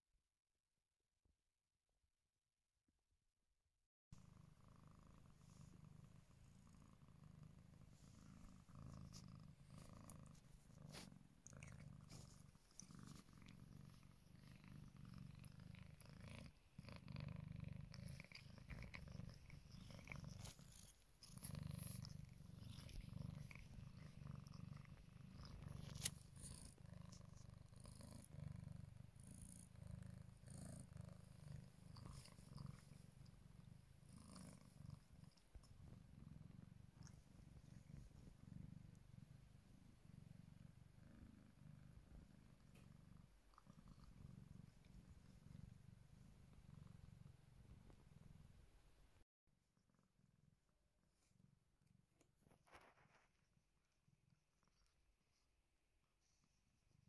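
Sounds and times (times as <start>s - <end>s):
cat purring: 4.2s - 57.0s.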